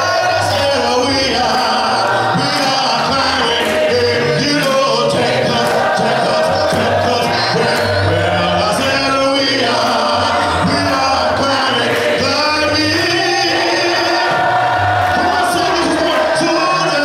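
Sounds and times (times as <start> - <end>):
congregation singing unaccompanied: 0.0 - 17.0
man leading a song: 0.0 - 17.0.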